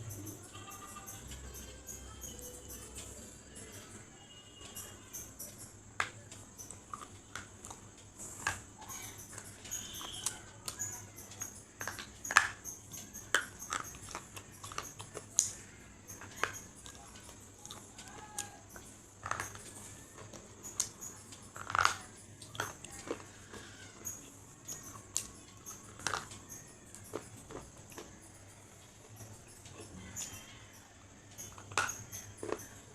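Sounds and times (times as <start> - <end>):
crunchy food chewing: 4.7 - 32.9.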